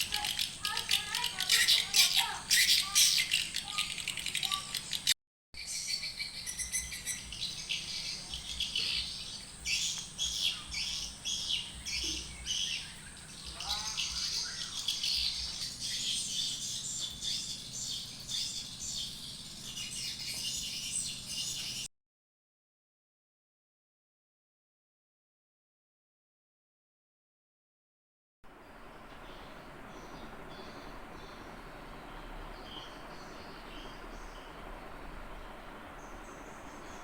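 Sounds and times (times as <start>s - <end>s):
birds chirping and twittering: 0.0s - 21.9s, 28.5s - 37.0s.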